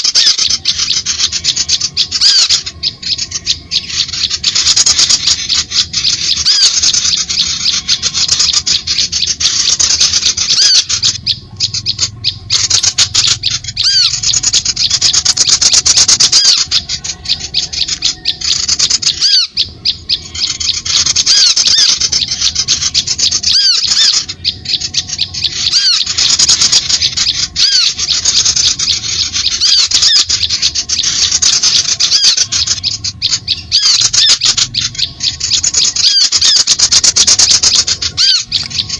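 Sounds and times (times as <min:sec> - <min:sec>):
birds chattering and twittering: 0:00.0 - 0:38.9.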